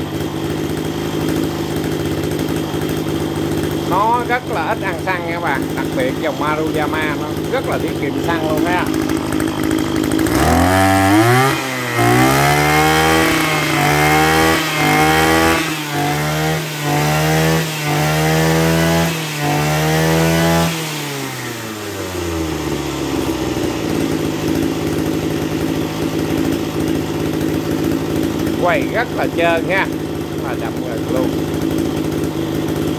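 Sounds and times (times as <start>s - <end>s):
brush cutter engine revving: 0.0s - 32.9s.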